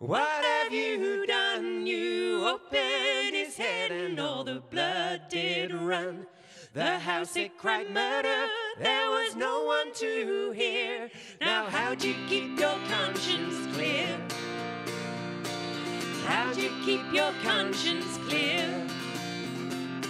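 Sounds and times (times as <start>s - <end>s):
group singing in harmony: 0.0s - 19.2s.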